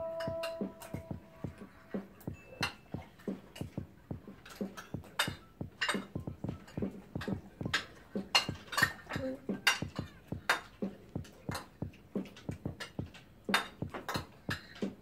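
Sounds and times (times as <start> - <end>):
cutlery clicking on plates: 2.2 - 3.8, 4.4 - 15.0.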